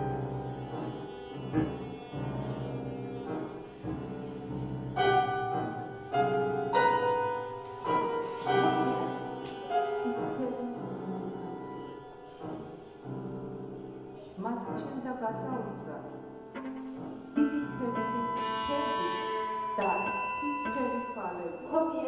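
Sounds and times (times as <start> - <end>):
loud struck piano chords: 0.0 - 22.0
sustained low string tones: 0.0 - 22.0.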